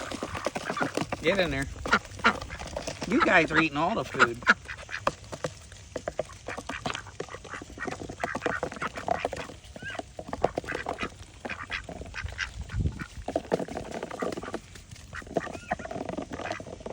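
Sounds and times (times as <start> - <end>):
ducks quacking: 0.0 - 16.8
duck bills clicking: 0.0 - 16.9.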